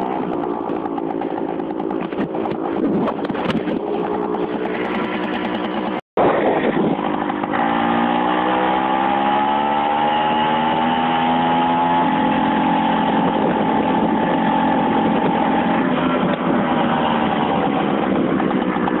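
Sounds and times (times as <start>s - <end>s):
moped engine accelerating: 0.0s - 19.0s.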